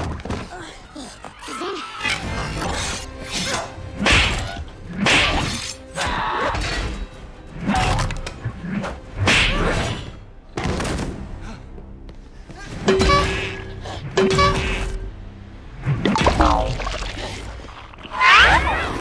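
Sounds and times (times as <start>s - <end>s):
action film music: 0.0s - 19.0s.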